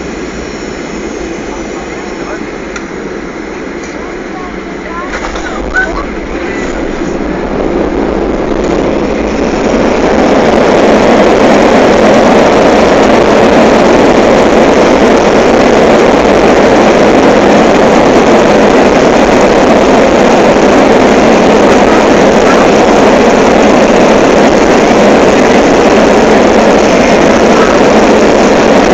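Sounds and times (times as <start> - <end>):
jet engines in reverse thrust: 0.0 - 28.9.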